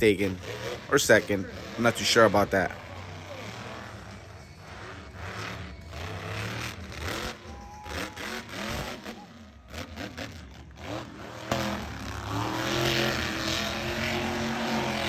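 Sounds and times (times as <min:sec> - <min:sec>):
arena noise: 0:00.0 - 0:15.0
monster truck engine revving: 0:00.0 - 0:15.0.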